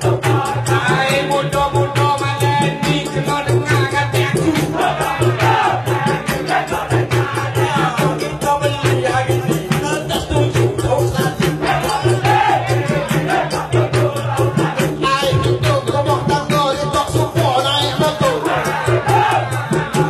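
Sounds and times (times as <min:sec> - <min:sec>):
hand drums: 0:00.0 - 0:20.0
person singing into a microphone: 0:00.0 - 0:20.0.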